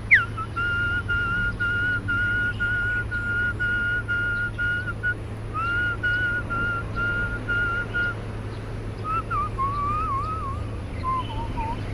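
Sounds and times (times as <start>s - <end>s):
steady low hum: 0.0s - 11.9s
clear whistled notes: 0.1s - 8.2s, 9.0s - 11.9s
lower wavering whistle: 0.1s - 8.2s, 9.0s - 11.9s.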